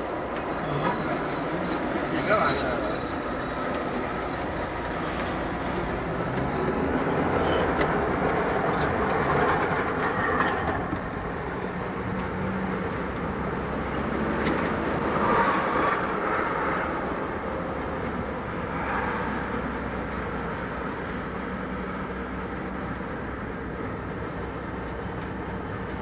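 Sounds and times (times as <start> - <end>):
trams rumbling on rails: 0.0 - 26.0.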